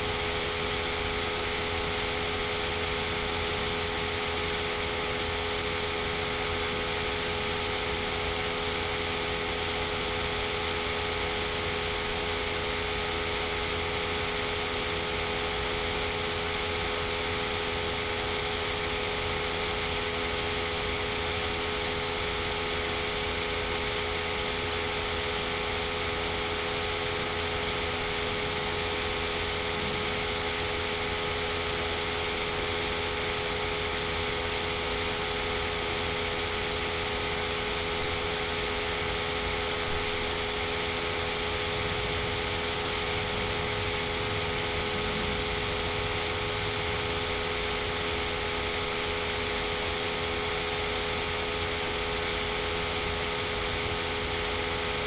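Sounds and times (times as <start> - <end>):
constant hum: 0.0 - 55.0.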